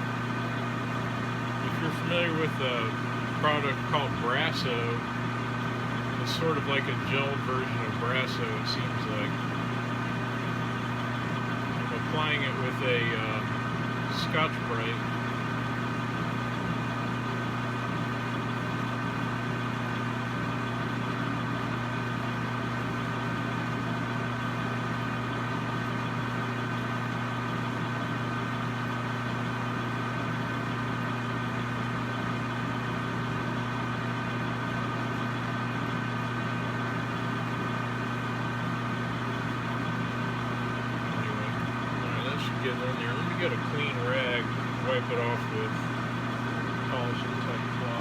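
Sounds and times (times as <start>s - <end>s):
metal lathe motor hum and whine: 0.0s - 48.0s.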